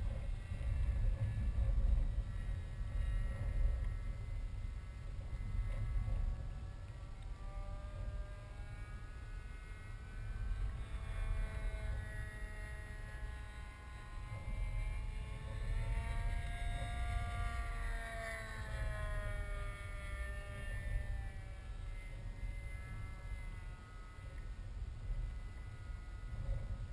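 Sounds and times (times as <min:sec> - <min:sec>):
distant engine droning: 0:00.0 - 0:26.9
wind rumbling on microphone: 0:00.0 - 0:26.9.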